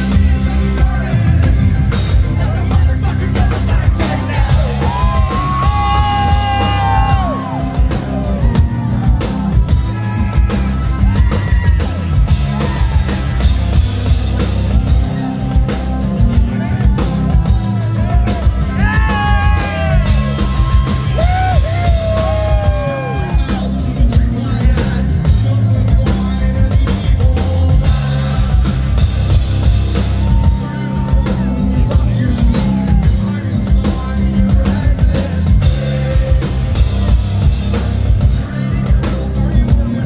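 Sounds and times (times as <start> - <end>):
man singing long notes: 0.0 - 13.1, 14.8 - 29.4, 30.0 - 40.0
drums with a steady beat: 0.0 - 40.0
keyboards: 0.0 - 40.0.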